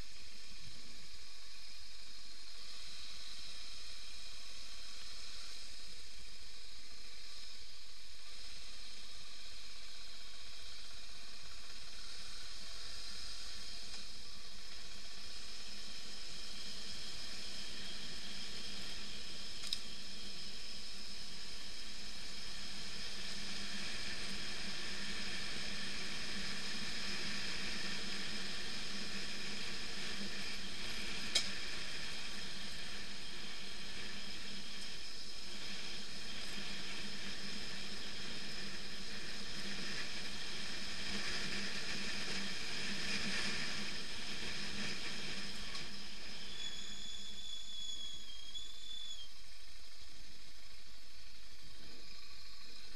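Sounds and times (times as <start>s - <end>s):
muffled hiss: 0.0s - 52.9s.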